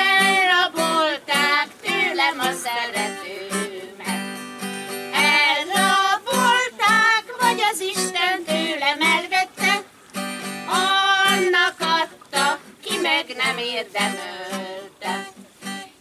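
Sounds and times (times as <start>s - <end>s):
women singing together: 0.0s - 9.9s, 10.6s - 15.9s
strummed acoustic guitar: 0.0s - 16.0s.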